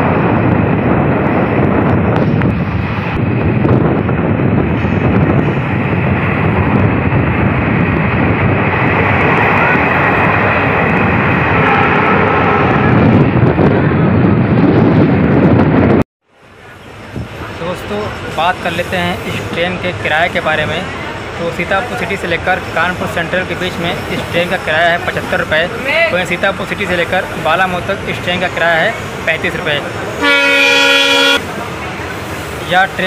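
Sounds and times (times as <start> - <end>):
train coach rumbling on track: 0.0 - 33.0.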